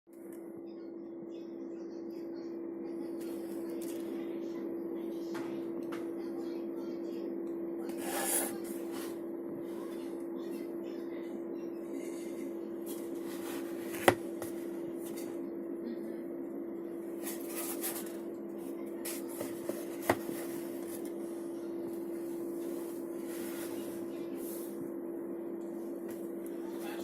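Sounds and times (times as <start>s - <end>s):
steady hum: 0.1s - 27.0s.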